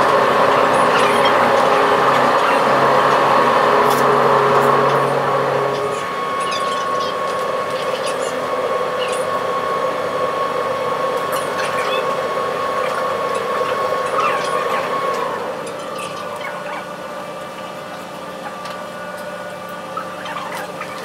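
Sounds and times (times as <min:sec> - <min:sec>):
ship engines humming: 0:00.0 - 0:21.0.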